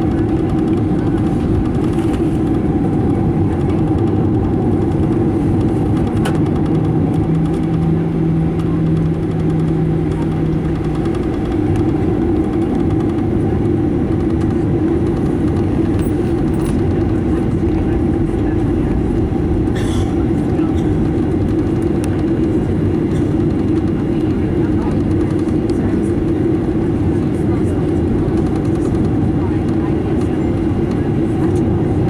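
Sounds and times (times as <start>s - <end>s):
jet engines humming in cabin: 0.0s - 32.0s.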